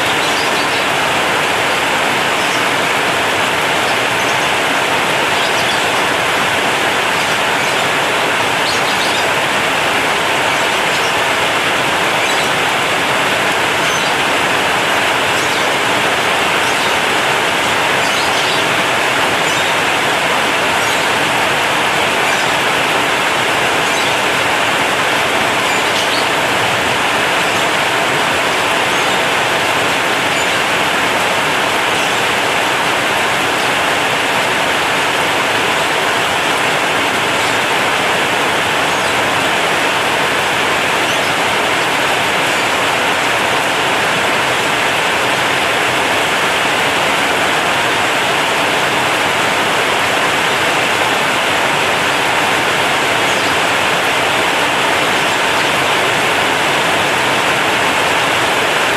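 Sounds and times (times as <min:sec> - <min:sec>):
heavy rain on a metal roof: 0:00.0 - 0:58.9.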